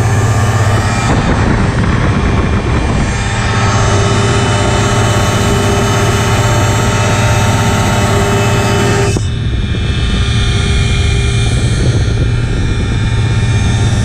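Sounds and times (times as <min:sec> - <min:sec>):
ultralight engine and propeller: 0:00.0 - 0:14.0
wind rushing over microphone: 0:00.0 - 0:14.0.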